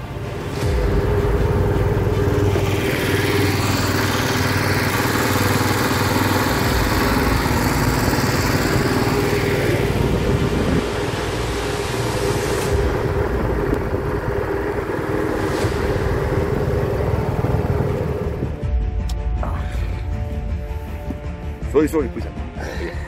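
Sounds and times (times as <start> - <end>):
propeller churning water: 0.0 - 18.7
boat engine running: 0.0 - 21.5.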